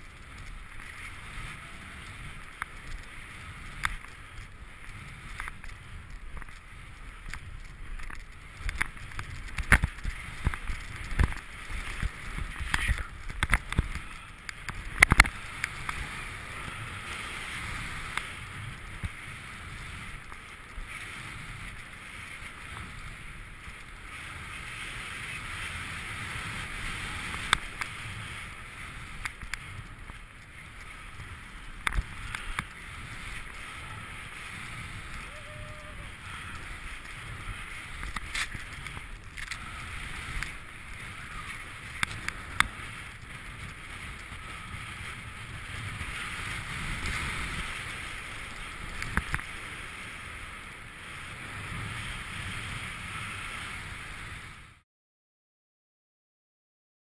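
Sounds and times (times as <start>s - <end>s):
rush of wind and snow: 0.0s - 54.8s.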